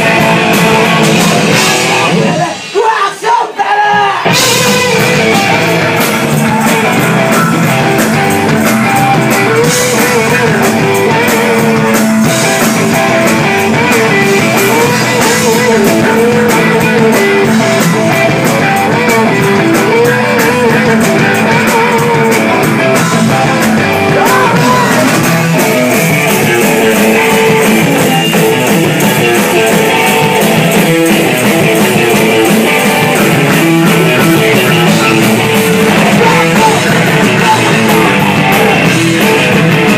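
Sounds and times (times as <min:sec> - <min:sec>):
electric guitar: 0:00.0 - 0:02.8, 0:04.2 - 0:39.9
rock band playing live: 0:00.0 - 0:39.9.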